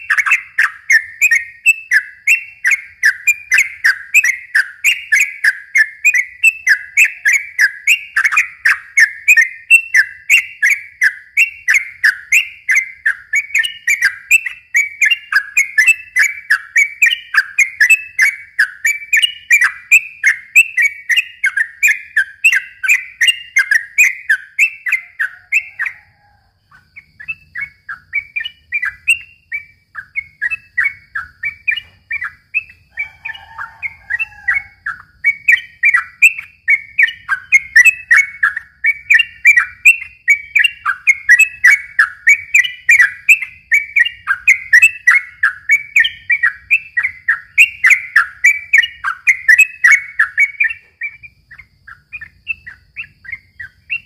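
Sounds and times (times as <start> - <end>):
bird singing chattering notes: 0.0 - 54.0.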